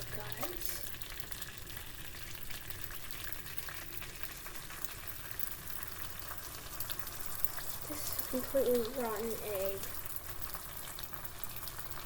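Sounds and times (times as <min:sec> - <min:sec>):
egg sizzling in a pan: 0:00.0 - 0:12.0.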